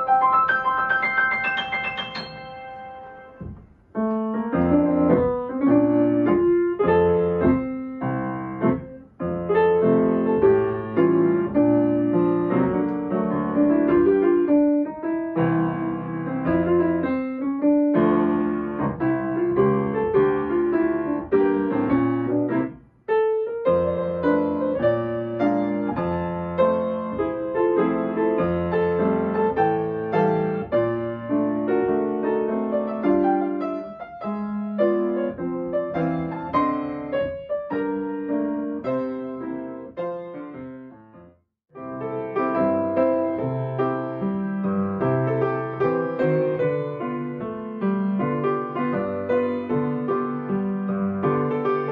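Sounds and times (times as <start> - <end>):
solo piano music: 0.0 - 51.9.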